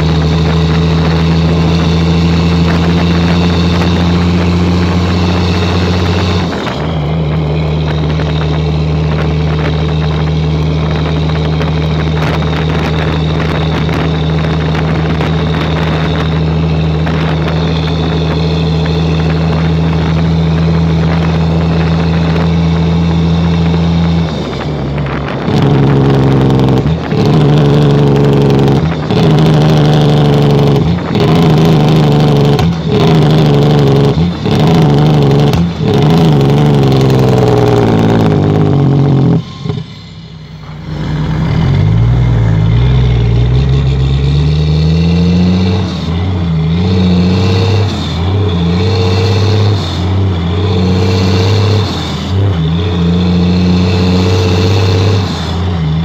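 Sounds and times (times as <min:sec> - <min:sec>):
truck diesel engine shifting gears: 0:00.0 - 0:56.0.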